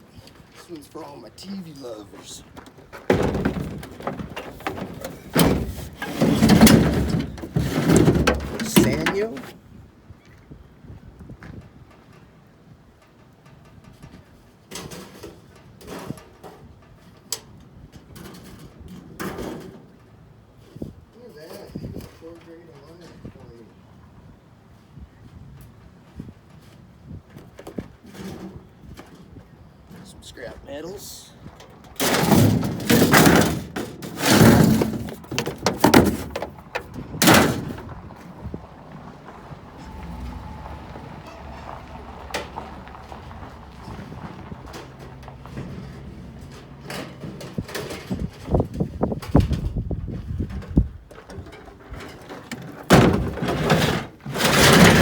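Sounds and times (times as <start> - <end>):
junk scraping and knocking: 0.2 - 9.6, 13.2 - 23.5, 25.7 - 55.0.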